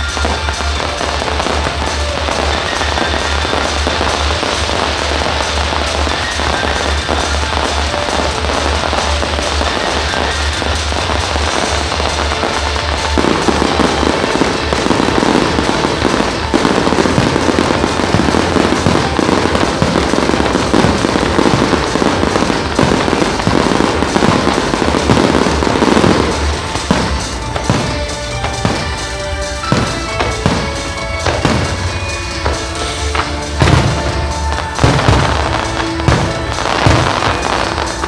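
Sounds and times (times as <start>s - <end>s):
fireworks bursting and crackling: 0.0s - 38.0s
loud music with pulsing bass: 0.0s - 38.0s.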